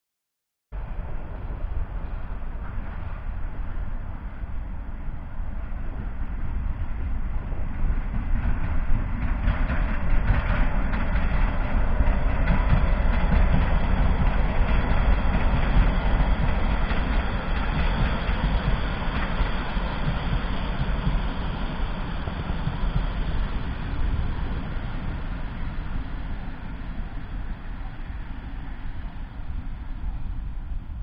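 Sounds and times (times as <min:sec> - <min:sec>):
locomotive engine rumbling: 0:00.8 - 0:31.0
train wheels on rails: 0:00.8 - 0:31.0.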